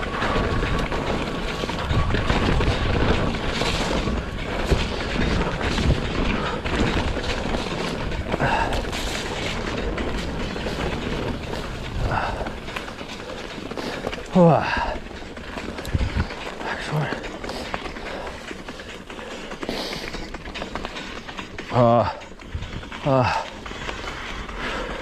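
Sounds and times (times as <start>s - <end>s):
wind rumbling on microphone: 0.0s - 19.6s, 22.4s - 25.0s
bike knocks and rattles: 0.0s - 25.0s
tyre noise on dirt: 0.0s - 25.0s.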